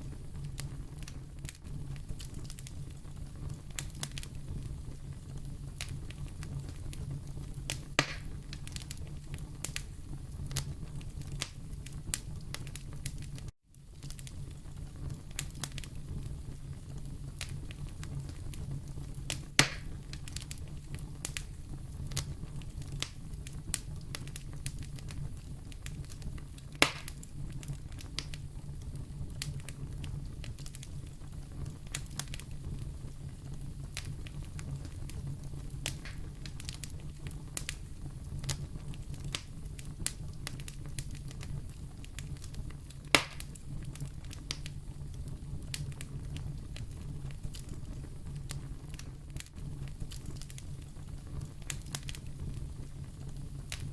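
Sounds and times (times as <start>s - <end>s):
sharp fire pops: 0.0s - 53.9s
wood fire crackling: 0.0s - 53.9s.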